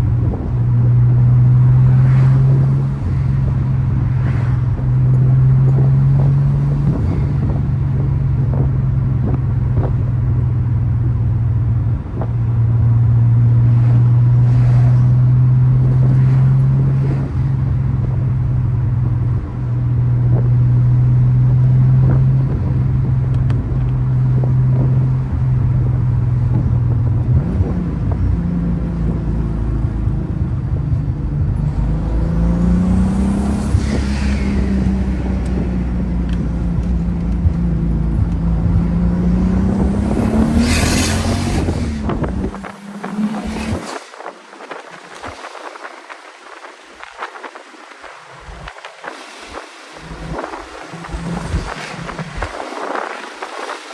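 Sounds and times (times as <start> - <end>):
car engine and exhaust revving: 0.0 - 53.9.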